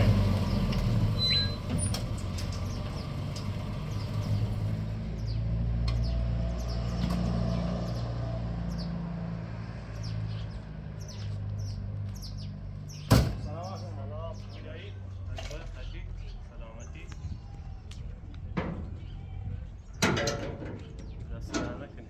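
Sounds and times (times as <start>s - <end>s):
small birds chirping: 0.3s - 9.0s, 9.8s - 20.0s, 20.7s - 22.0s.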